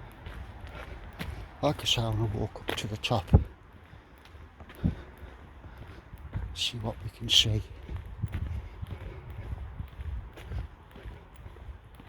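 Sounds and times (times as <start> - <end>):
footsteps on outdoor track: 0.0 - 12.0.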